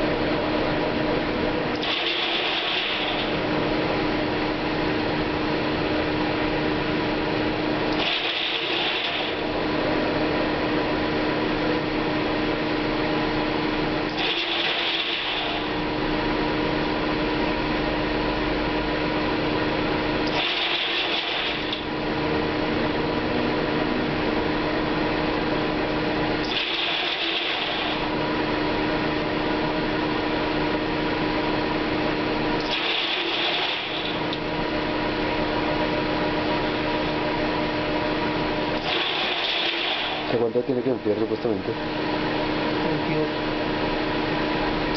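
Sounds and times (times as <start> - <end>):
grain dryer humming: 0.0 - 44.9.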